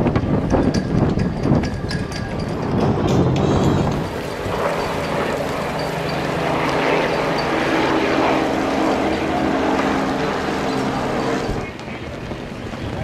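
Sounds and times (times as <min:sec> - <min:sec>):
powerboat engine drone: 0:00.0 - 0:13.0
rushing water noise: 0:01.4 - 0:13.0.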